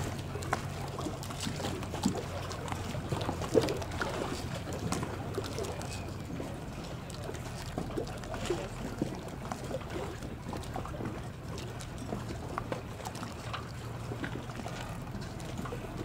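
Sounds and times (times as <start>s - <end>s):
water lapping and splashing: 0.0s - 16.0s.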